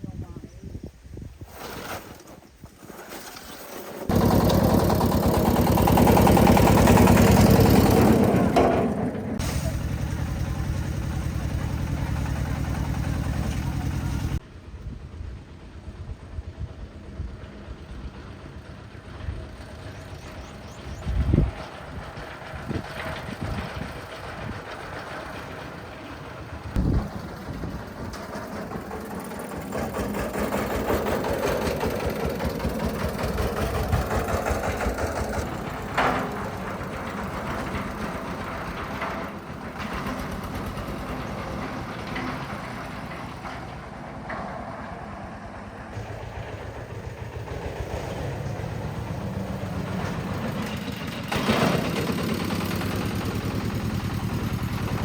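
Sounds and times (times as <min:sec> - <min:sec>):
engine running: 0:04.0 - 0:55.0.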